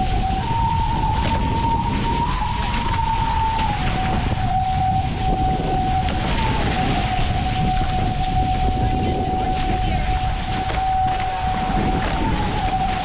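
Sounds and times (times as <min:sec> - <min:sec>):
catamaran foils whining: 0:00.0 - 0:13.0
rushing water: 0:00.0 - 0:13.0
wind noise: 0:00.0 - 0:13.0.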